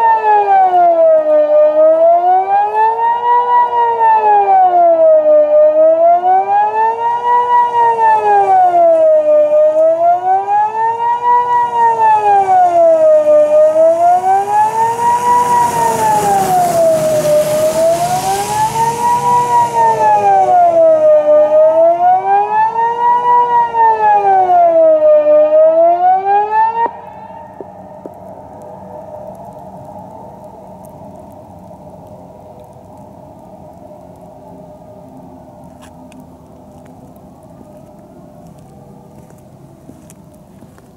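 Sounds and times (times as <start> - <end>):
wailing siren: 0.0 - 40.9.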